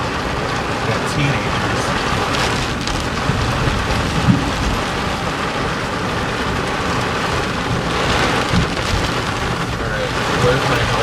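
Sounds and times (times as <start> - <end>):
heavy rain on car: 0.0 - 11.0
tyre and road rumble: 0.0 - 11.0.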